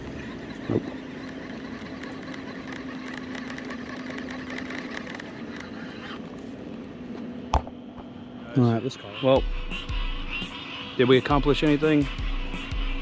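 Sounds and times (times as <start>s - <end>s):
distant motor hum: 0.0s - 13.0s.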